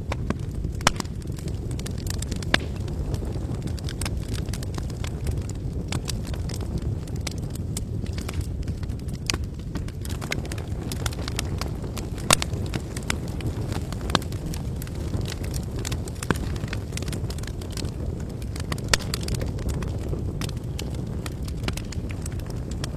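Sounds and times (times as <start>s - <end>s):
campfire flames rushing: 0.0s - 22.9s
fire crackling: 0.0s - 22.9s
sharp fire pops: 0.0s - 22.9s.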